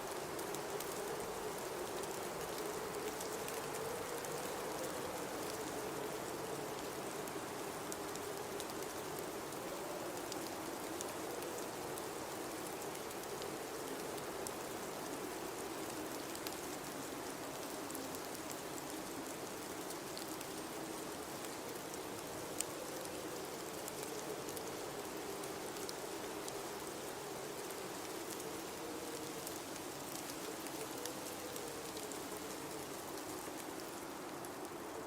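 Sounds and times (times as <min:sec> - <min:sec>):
howling blizzard wind: 0:00.0 - 0:35.0.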